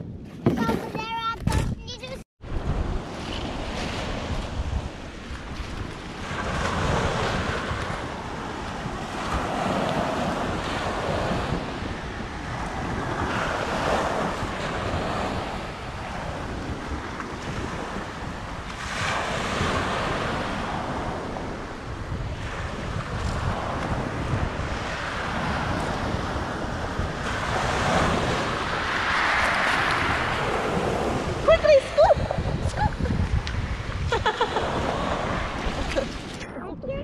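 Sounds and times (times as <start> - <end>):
wind buffeting microphone: 0.0 - 37.0
sea waves washing onto shore: 2.6 - 36.4.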